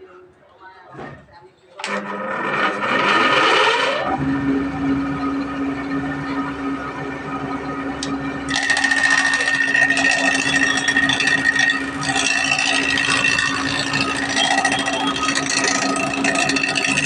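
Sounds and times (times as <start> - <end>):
rattling cutting noise with whine: 1.8 - 17.0
power tool humming: 2.7 - 17.0.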